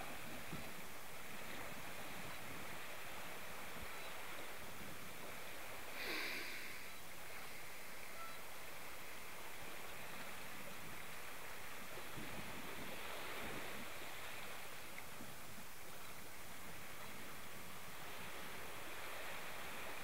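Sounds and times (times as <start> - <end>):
boat wake water rushing: 0.0 - 20.0.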